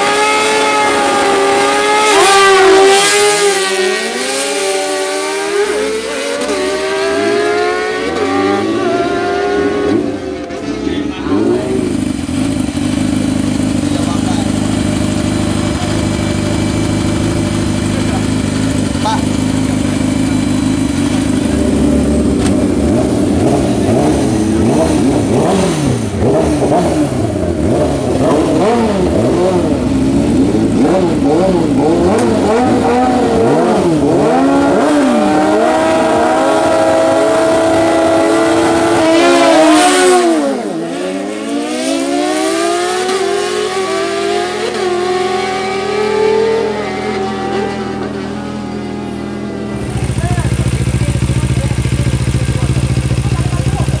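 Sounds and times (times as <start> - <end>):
motorbike engines revving: 0.0 - 54.0.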